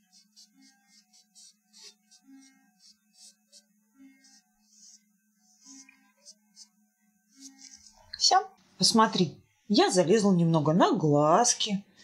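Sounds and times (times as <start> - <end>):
faint background music: 0.1 - 12.0.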